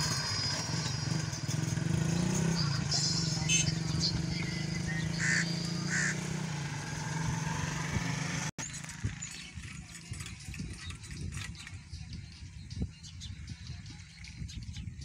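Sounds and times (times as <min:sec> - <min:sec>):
small engine running: 0:00.0 - 0:12.1.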